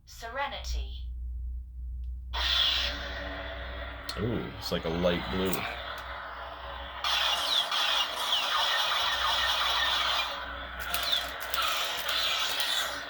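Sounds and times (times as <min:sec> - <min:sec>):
hissing lightsaber hum: 0:02.3 - 0:13.0.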